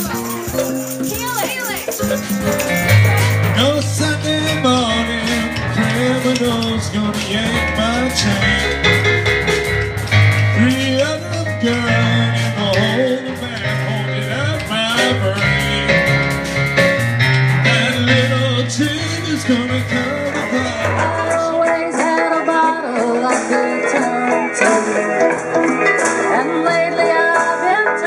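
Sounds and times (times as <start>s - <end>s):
live band music with singing: 0.0s - 28.0s.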